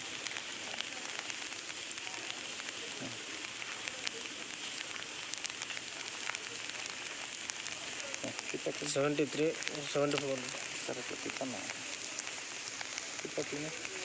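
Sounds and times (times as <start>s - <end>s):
light rain falling on water: 0.0s - 14.0s.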